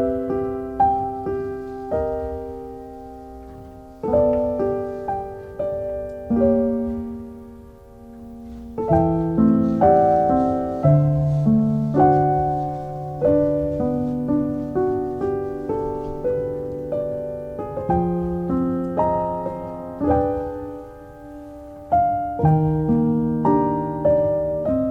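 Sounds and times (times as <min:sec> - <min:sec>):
soft solo piano: 0:00.0 - 0:24.9.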